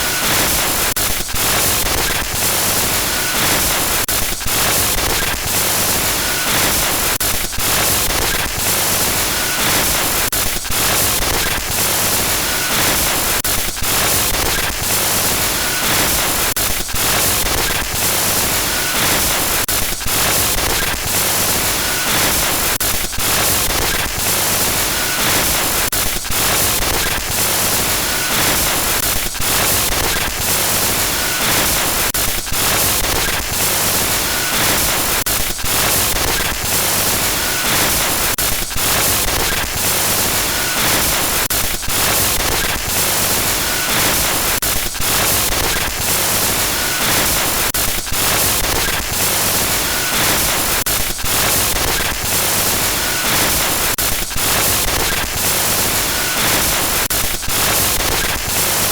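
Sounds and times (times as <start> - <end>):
harsh glitch static: 0.0 - 58.9.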